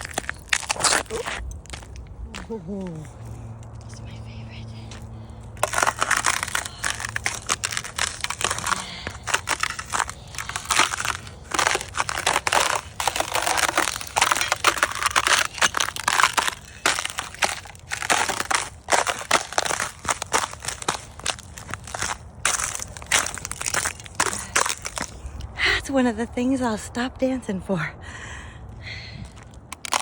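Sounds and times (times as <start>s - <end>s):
ice crunching underfoot: 0.0s - 25.4s, 29.2s - 30.0s.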